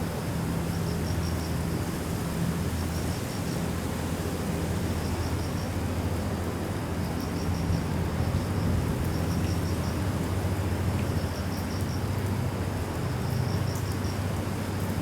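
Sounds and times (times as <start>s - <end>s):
rain: 0.0s - 15.0s
wind: 0.0s - 15.0s.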